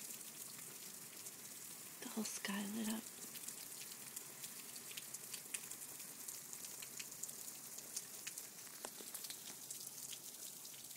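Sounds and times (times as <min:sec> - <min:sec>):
hiss of falling rain: 0:00.0 - 0:10.9.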